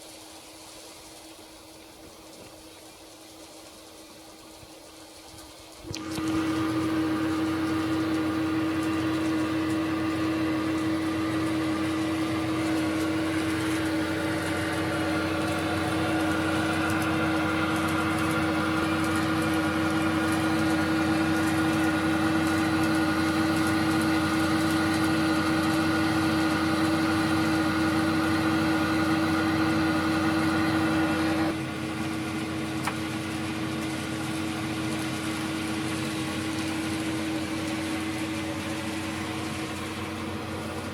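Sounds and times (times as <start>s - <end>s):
diesel railcar engine through speaker: 5.8s - 40.9s.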